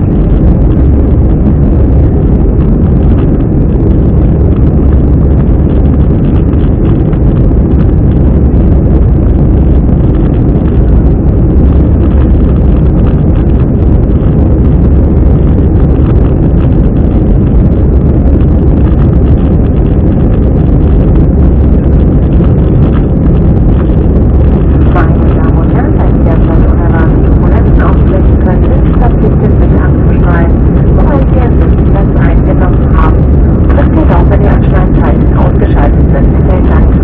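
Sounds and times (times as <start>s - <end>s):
jet engine cabin rumble: 0.0s - 37.0s.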